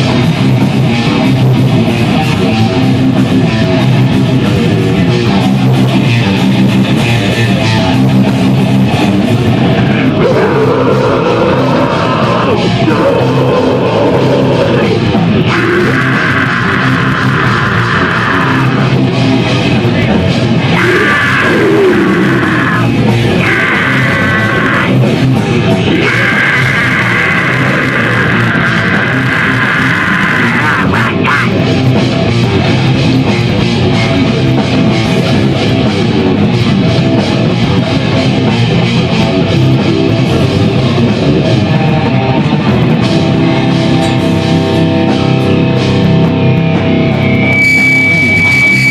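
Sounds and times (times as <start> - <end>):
drum kit: 0.0 - 48.9
guitar: 0.0 - 48.9
loud rock music: 0.0 - 48.9.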